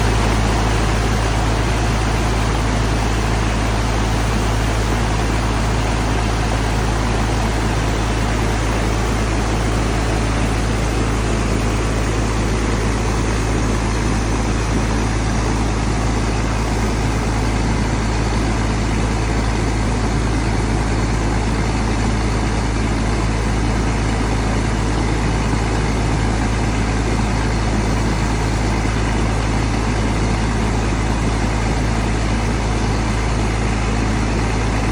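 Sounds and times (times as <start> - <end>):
water pump engine drone: 0.0 - 34.9
water rushing from outlet: 0.0 - 34.9.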